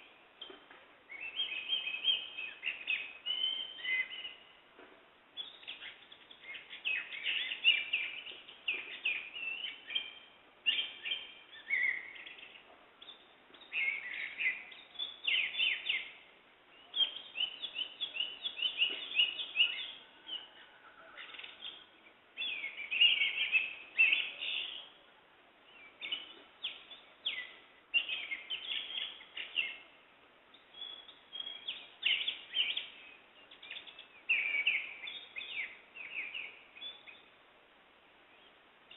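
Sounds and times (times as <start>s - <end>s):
birds singing and chirping: 0.0s - 4.6s, 5.4s - 25.0s, 25.6s - 37.4s.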